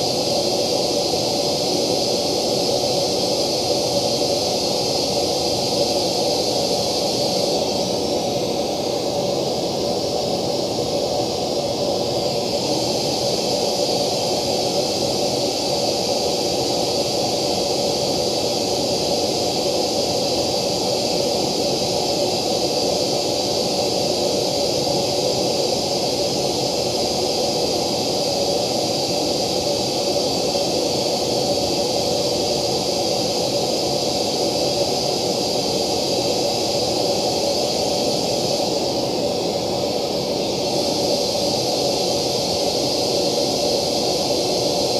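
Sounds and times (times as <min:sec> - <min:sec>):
test noise hiss from loudspeaker: 0:00.0 - 0:44.9.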